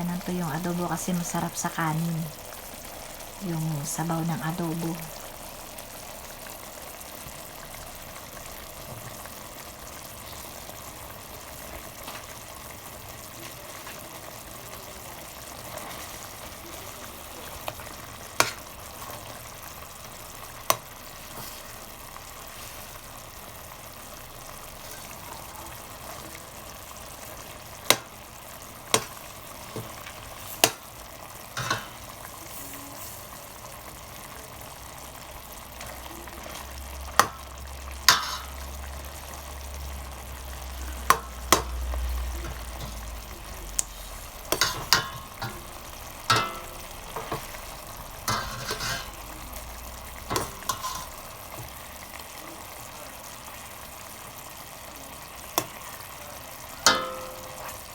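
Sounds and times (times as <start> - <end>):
meat sizzling in a pot: 0.0 - 57.9.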